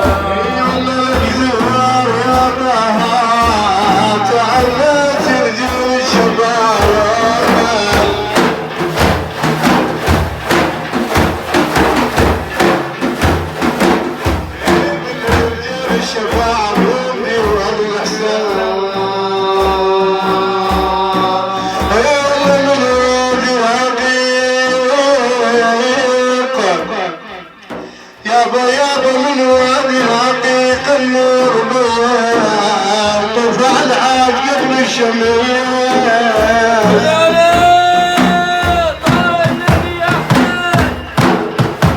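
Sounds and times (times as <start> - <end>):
devotional song singing: 0.0 - 41.9
drum beat: 0.0 - 41.9.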